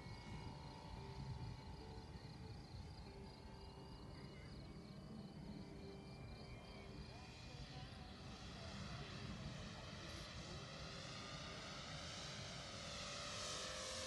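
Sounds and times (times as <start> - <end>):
distant propeller aircraft engine: 0.0 - 14.0.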